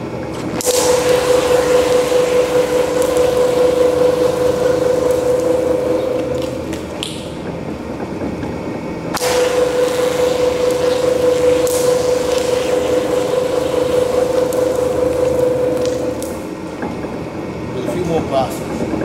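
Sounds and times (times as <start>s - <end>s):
rubber mill whine: 0.0s - 19.0s.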